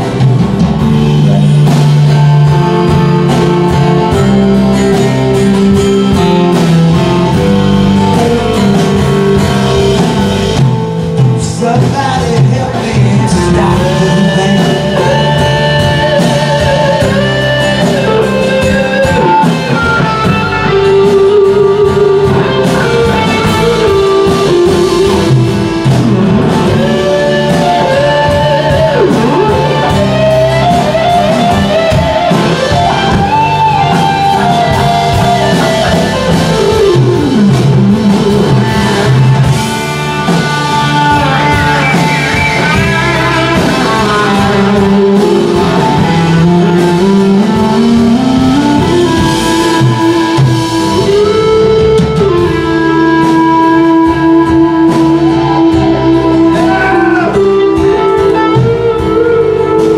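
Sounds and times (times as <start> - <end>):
drums: 0.0 - 59.9
electric guitar lead: 0.0 - 59.9.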